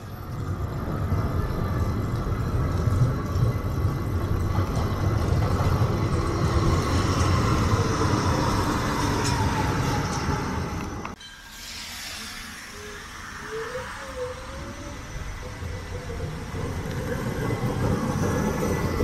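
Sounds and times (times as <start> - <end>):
tram rumbling with hiss: 0.0 - 19.0.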